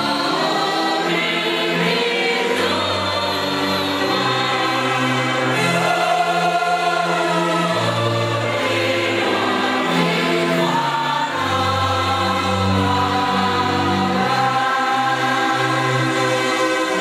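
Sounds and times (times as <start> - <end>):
church choir singing a hymn: 0.0 - 17.0.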